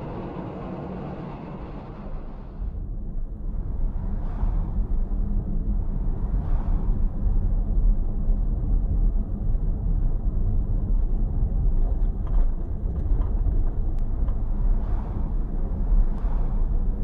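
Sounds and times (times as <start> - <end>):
car driving: 0.0 - 17.0.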